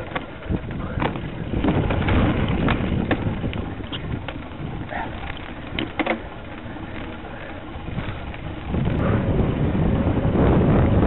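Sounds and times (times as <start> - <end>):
bike rattling over bumps: 0.0 - 11.0
wind rumbling on microphone: 0.0 - 11.0.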